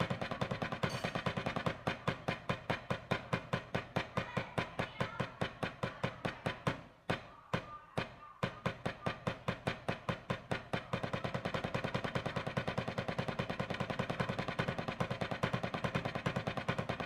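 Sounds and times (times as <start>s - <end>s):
drumsticks on a practice pad: 0.0s - 17.0s.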